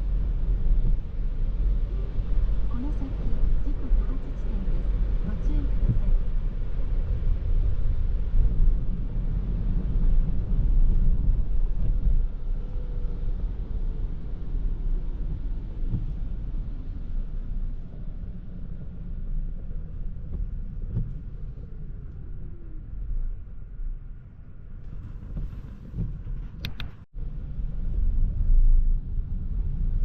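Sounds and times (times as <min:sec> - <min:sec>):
road and tyre rumble: 0:00.0 - 0:30.0.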